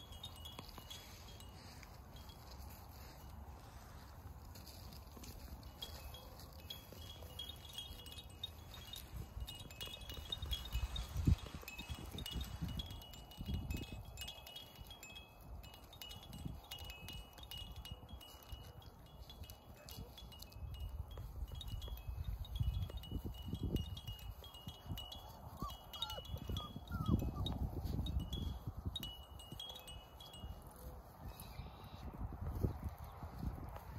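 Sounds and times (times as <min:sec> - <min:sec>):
wind chime tinkling: 0:00.0 - 0:33.8
wind rumbling on microphone: 0:00.0 - 0:33.9.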